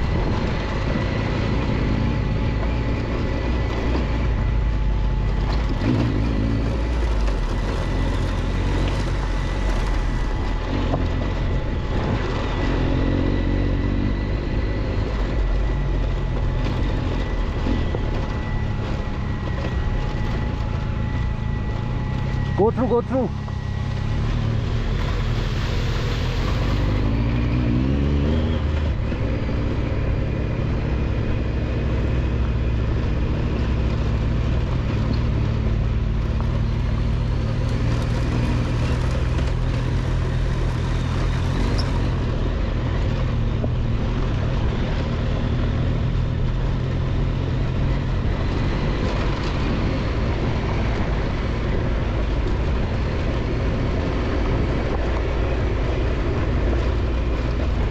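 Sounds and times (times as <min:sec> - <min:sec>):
motorcycle engine running: 0:00.0 - 0:57.9
road and wind noise: 0:00.0 - 0:57.9.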